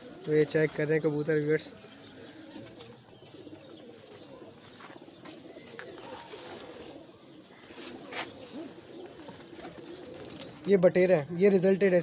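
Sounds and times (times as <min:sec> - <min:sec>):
pigeons cooing: 0:00.0 - 0:11.4.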